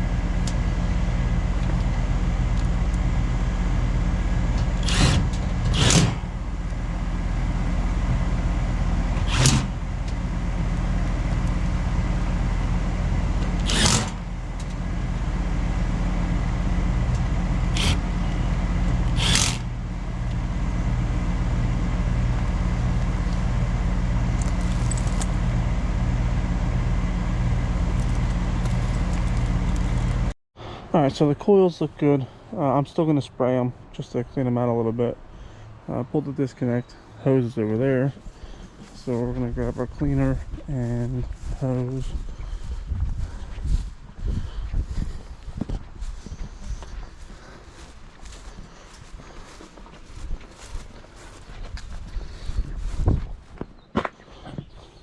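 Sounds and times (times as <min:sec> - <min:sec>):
mechanical hum: 0:00.0 - 0:30.4, 0:36.7 - 0:55.0.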